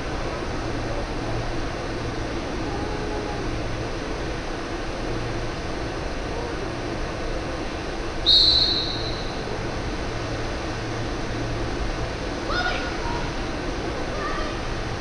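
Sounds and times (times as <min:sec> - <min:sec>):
indoor pool hall hiss and rumble: 0:00.0 - 0:15.0.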